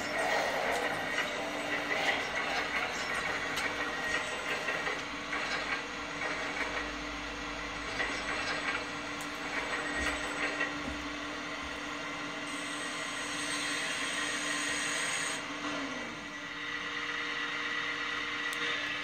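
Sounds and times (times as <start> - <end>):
hydraulic pump whining: 0.0 - 19.0.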